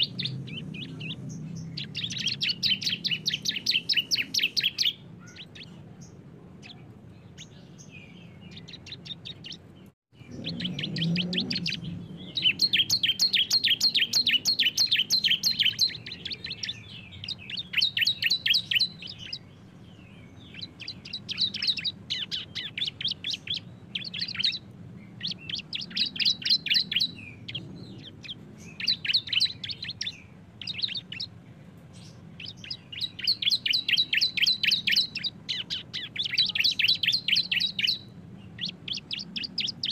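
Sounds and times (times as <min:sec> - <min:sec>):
birds singing high rattling trills: 0:00.0 - 0:39.9.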